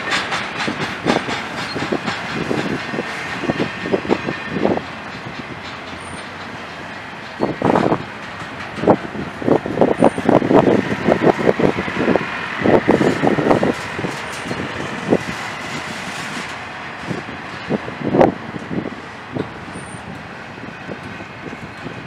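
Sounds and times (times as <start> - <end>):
steady train rumble: 0.0 - 22.0
train wheels clacking over rail joints: 0.0 - 22.0.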